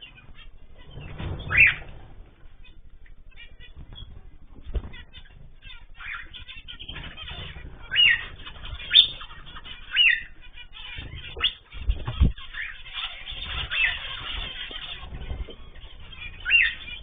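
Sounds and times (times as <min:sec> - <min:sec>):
soft bird chatter: 0:00.0 - 0:17.0
loud sharp bird chirps: 0:02.6 - 0:17.0.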